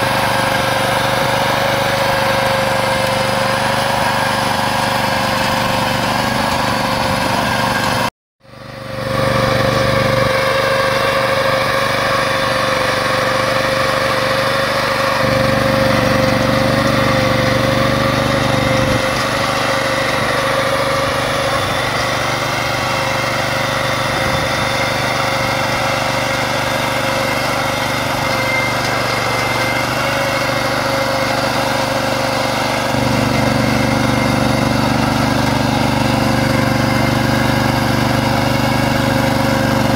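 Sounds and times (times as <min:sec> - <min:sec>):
rotary plough working soil: 0:00.0 - 0:39.9
small petrol engine running: 0:00.0 - 0:39.9.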